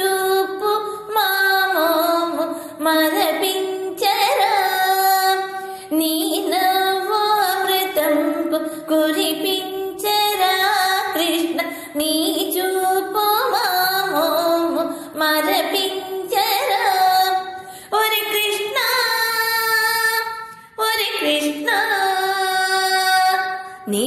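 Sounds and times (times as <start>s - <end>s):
woman singing devotional song: 0.0s - 24.0s.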